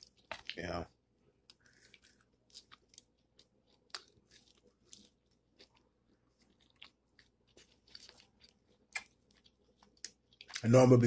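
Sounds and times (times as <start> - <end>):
person chewing crunchy chicken: 0.0 - 0.8, 1.4 - 10.7.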